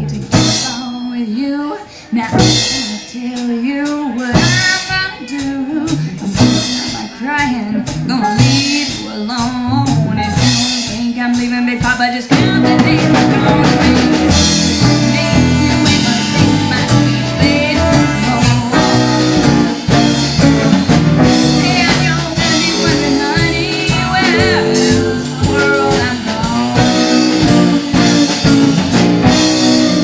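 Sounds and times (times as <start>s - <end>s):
western swing band playing: 0.0s - 30.0s.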